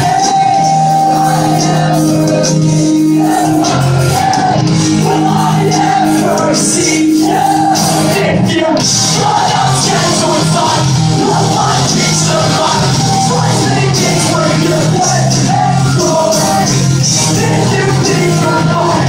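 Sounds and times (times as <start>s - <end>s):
distorted electric guitars: 0.0s - 19.0s
drums: 0.0s - 19.0s
live rock band playing: 0.0s - 19.0s
person shouting singing: 0.0s - 19.0s.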